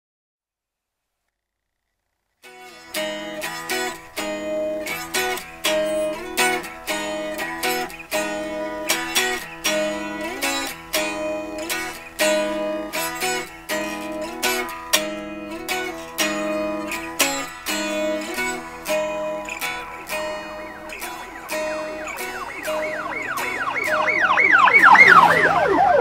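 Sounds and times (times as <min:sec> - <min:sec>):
electric guitar strumming chords: 0:02.4 - 0:26.0.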